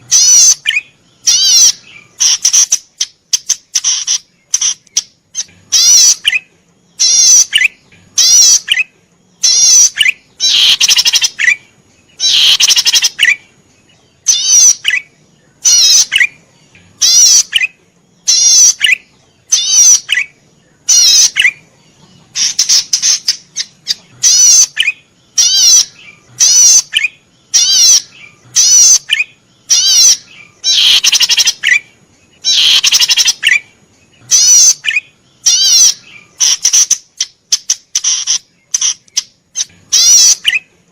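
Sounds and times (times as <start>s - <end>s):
bird singing rapid trills: 0.0s - 40.9s.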